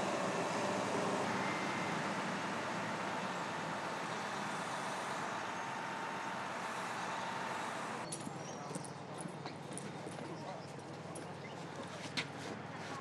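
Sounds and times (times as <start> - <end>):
engine-like running noise: 0.0 - 13.0.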